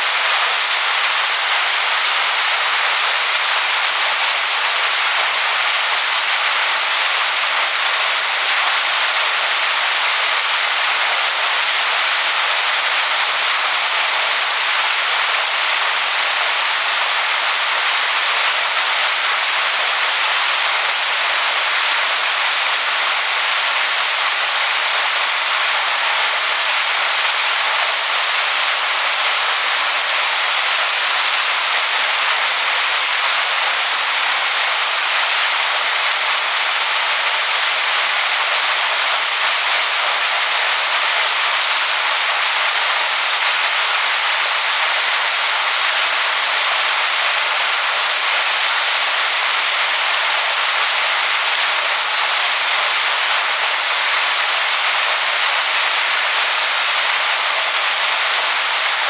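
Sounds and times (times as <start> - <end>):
waterfall rushing over stones: 0.0 - 59.0.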